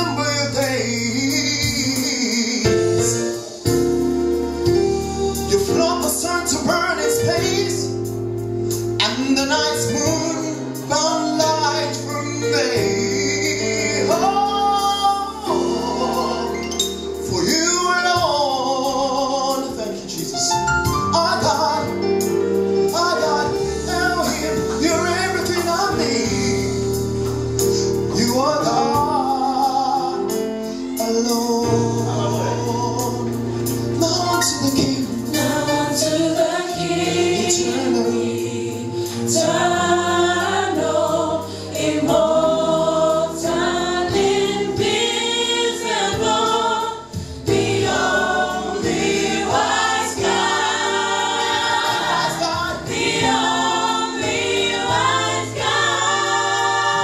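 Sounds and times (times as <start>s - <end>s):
gospel choir and band: 0.0s - 57.0s.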